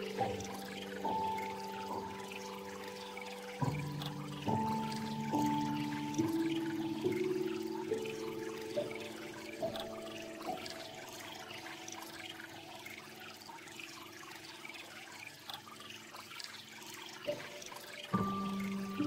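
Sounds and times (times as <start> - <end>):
soft sustained music notes: 0.0 - 14.8, 17.1 - 19.0.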